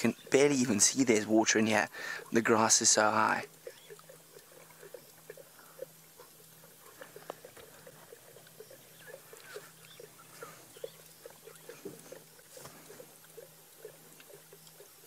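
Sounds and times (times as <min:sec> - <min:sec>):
lions lapping water: 0:00.0 - 0:15.0.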